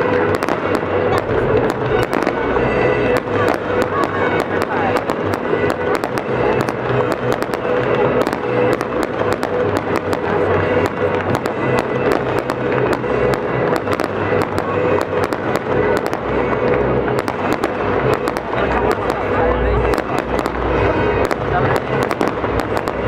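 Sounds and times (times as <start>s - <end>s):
fireworks bangs and crackles: 0.0s - 23.0s
loud music: 0.0s - 23.0s.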